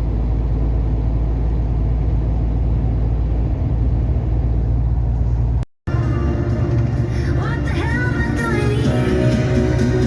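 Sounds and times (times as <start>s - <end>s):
diesel truck engine rumbling: 0.0s - 10.0s
road noise: 0.0s - 10.0s.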